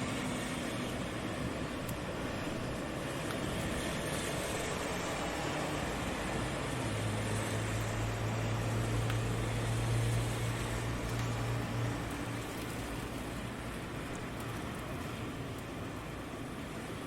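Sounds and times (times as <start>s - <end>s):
low hum of traffic: 0.0s - 17.0s
steady rain hiss: 0.0s - 17.0s.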